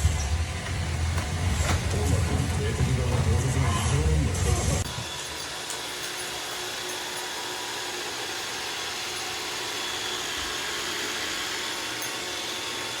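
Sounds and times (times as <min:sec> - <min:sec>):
robot vacuum whirring: 0:01.2 - 0:13.0.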